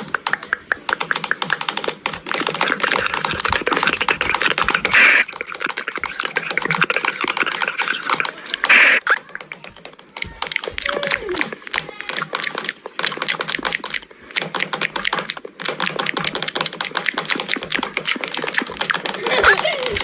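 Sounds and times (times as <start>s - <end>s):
hissing noise: 0.0s - 20.0s
rapid irregular clicking: 0.0s - 20.0s.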